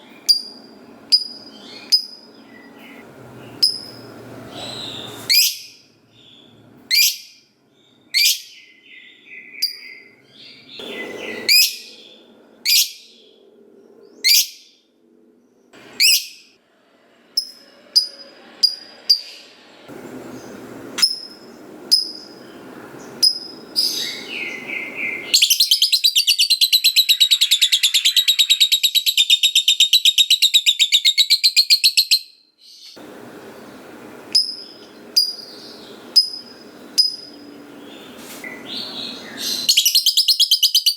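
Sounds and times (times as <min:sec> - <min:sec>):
lovebird chirping and trilling: 0:00.2 - 0:13.2, 0:14.2 - 0:14.7, 0:15.9 - 0:16.5, 0:17.4 - 0:19.6, 0:20.4 - 0:33.0, 0:34.3 - 0:40.9.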